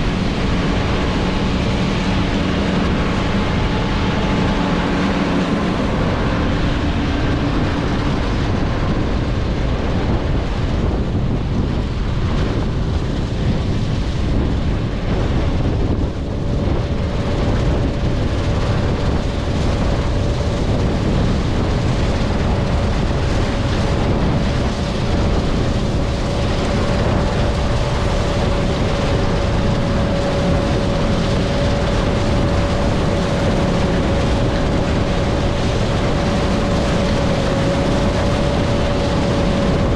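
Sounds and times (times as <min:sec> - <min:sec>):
combine harvester machine din: 0:00.0 - 0:11.6, 0:14.2 - 0:39.9
steady machine whine: 0:00.0 - 0:39.9.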